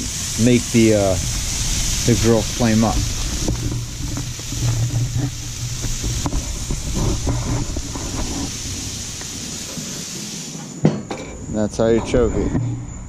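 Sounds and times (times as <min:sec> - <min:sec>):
fish sizzling on a grill: 0:00.0 - 0:10.8.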